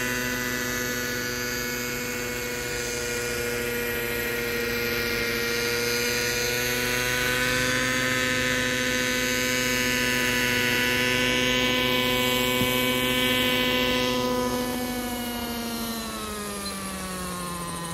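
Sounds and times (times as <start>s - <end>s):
model helicopter engine and rotor: 0.0s - 17.9s.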